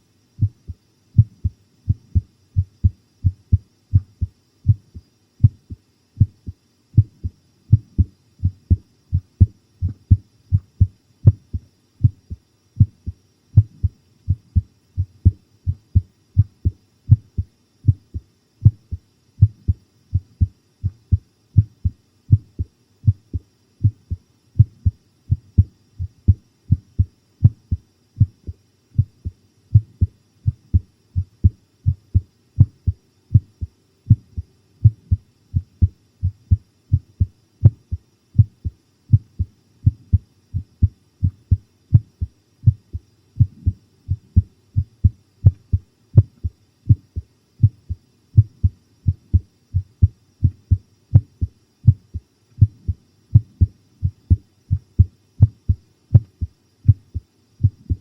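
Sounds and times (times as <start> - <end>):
fast heartbeat thumping: 0.4 - 58.0.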